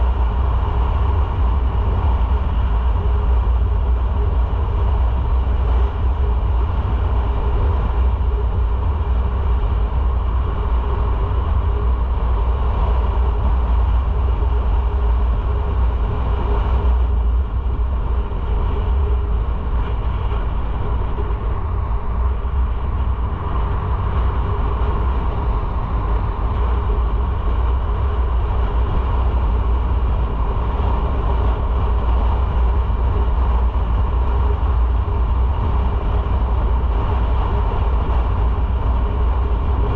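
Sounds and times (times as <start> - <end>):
wind noise: 0.0 - 39.9.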